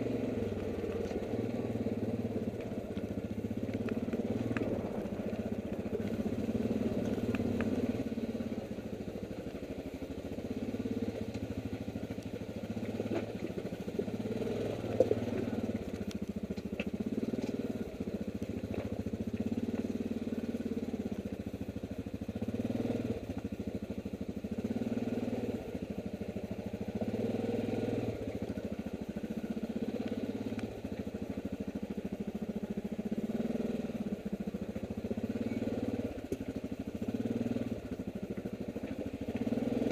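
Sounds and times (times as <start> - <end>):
atv engine at low revs: 0.0 - 39.9.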